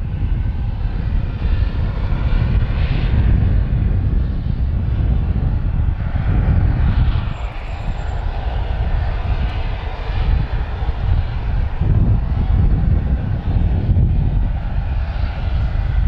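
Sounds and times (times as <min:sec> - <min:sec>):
aircraft engine rumble: 0:00.0 - 0:16.0.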